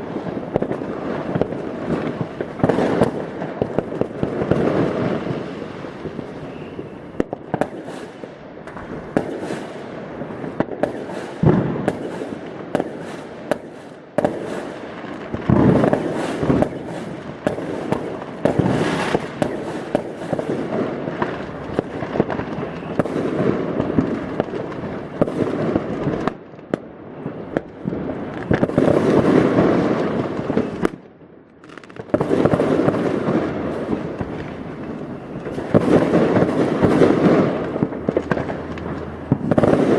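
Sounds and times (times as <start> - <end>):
firecracker bangs and pops: 0.0 - 31.0, 31.6 - 39.9
fireworks crackling: 0.0 - 39.9.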